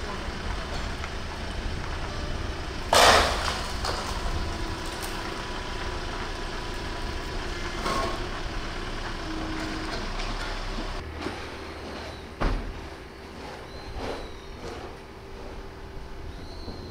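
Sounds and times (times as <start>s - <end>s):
log splitter engine running: 0.0s - 16.9s.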